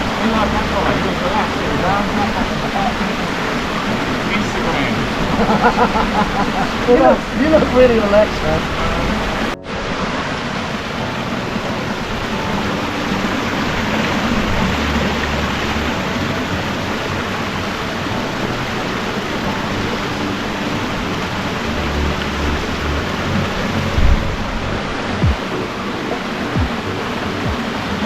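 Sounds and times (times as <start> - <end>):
waterfall splashing into pools: 0.0 - 28.0.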